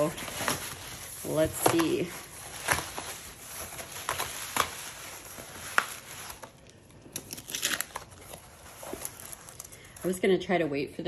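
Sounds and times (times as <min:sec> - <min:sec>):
cardboard and paper rustling: 0:00.0 - 0:10.2.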